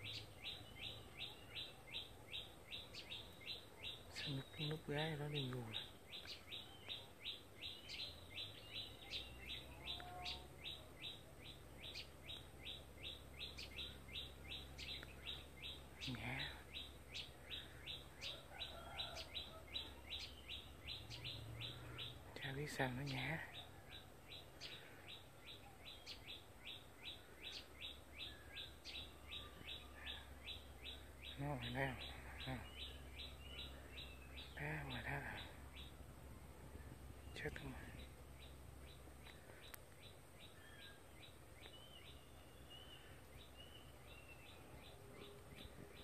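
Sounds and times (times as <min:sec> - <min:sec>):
bird chirping faintly: 0:00.0 - 0:46.0
low steady hum: 0:00.0 - 0:46.0.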